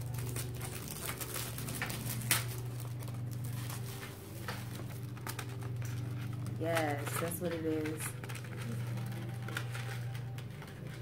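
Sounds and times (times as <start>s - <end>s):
packet rustling and tearing: 0.0s - 11.0s
steady low hum: 0.0s - 11.0s.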